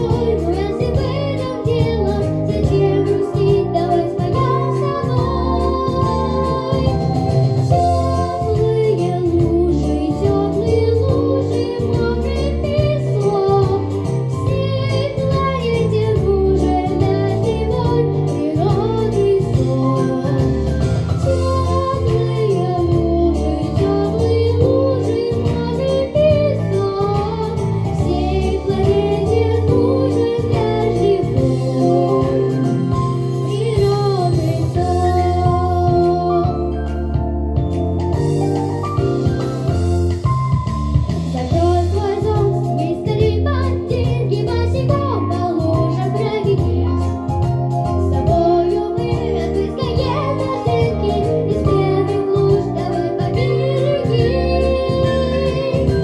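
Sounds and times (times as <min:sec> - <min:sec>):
girl singing into microphone: 0:00.0 - 0:36.8, 0:41.4 - 0:56.0
backing track with bass beat: 0:00.0 - 0:56.0.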